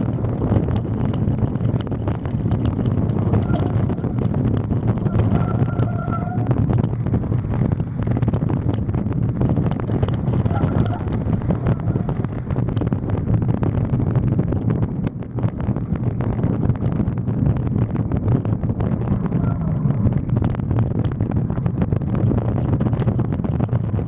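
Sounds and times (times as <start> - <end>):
bike knocks and rattles: 0.0 - 24.0
wind buffeting microphone: 0.0 - 24.0.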